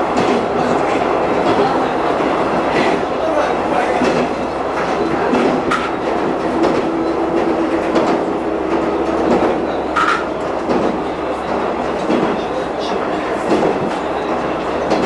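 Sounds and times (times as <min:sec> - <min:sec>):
train engine and wheel noise: 0:00.0 - 0:15.0
wheels clacking over rail joints: 0:02.7 - 0:15.0.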